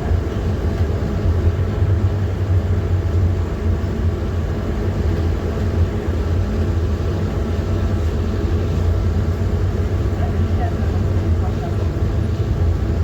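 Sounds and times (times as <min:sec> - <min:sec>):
bus engine and road drone: 0:00.0 - 0:13.0.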